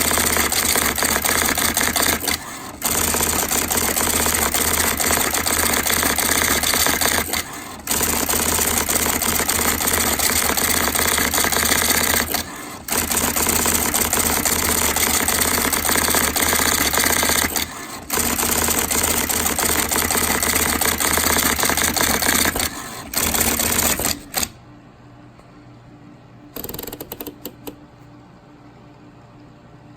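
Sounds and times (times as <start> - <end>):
scattered typewriter clicks: 0.0 - 24.6, 26.6 - 27.8.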